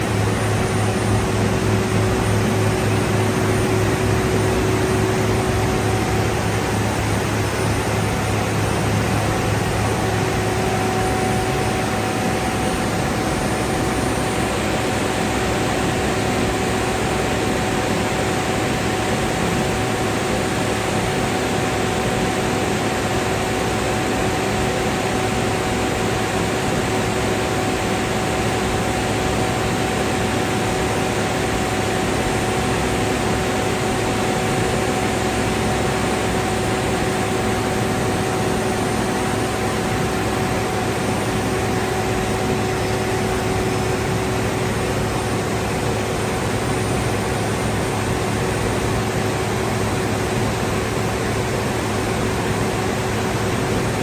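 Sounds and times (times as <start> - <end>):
industrial machinery running: 0.0 - 54.0.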